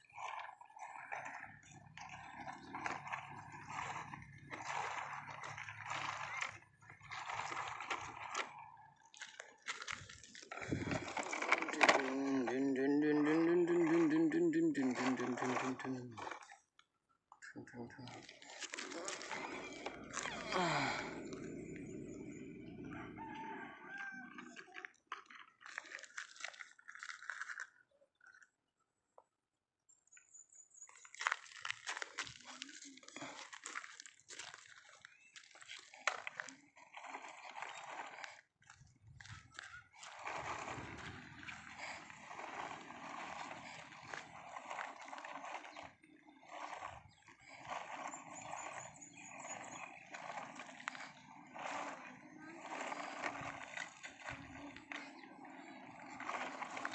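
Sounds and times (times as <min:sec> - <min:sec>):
toy trucks scraping over gravel: 0:00.0 - 0:16.6, 0:17.8 - 0:27.8, 0:31.2 - 0:56.9.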